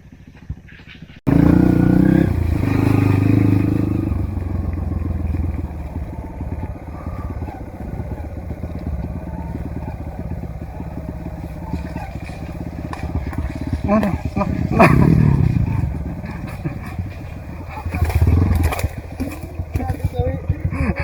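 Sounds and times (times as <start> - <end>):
dirt bike engine revving: 1.3 - 21.0.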